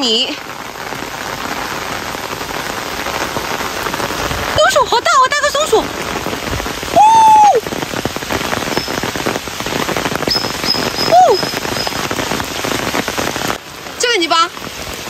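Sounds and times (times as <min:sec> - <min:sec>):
heavy rain on leaves: 0:00.0 - 0:15.0.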